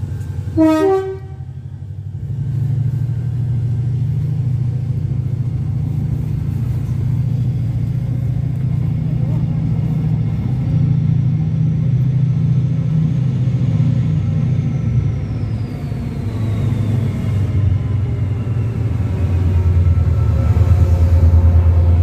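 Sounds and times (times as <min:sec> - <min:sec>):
diesel locomotive engine drone: 0:00.0 - 0:22.0
train coaches rolling: 0:00.0 - 0:22.0.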